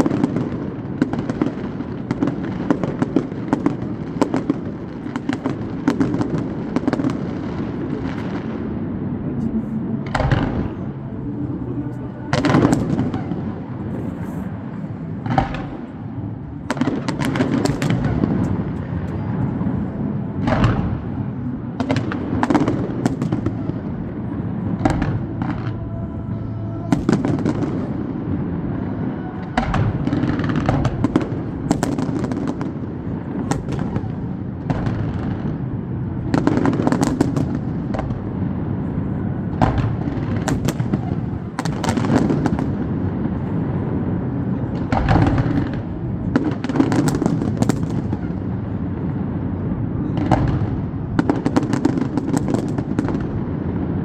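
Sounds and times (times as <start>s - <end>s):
fireworks bangs and crackling: 0.0s - 26.0s, 26.8s - 54.0s
steady background din: 0.0s - 54.0s.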